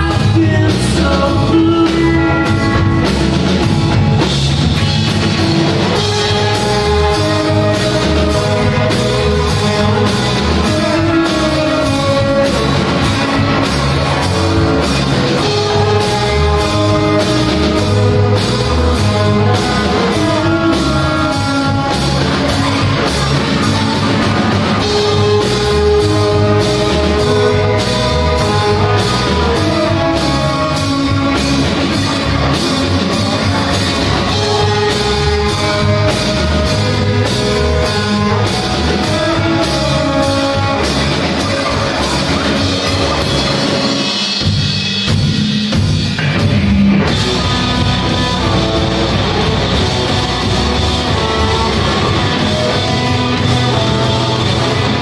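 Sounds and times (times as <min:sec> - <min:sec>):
rock band playing loudly: 0:00.0 - 0:55.0.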